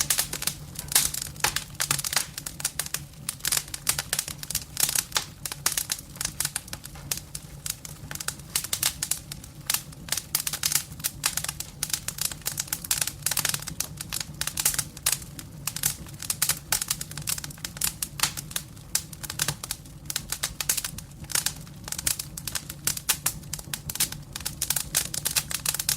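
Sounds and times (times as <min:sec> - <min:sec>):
logs crackling in fireplace: 0:00.0 - 0:25.9.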